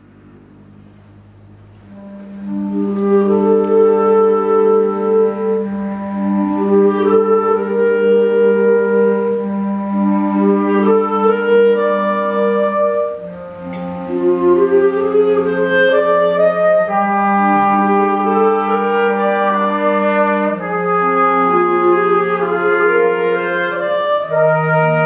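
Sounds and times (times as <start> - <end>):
wind band playing chords: 0.0 - 25.0.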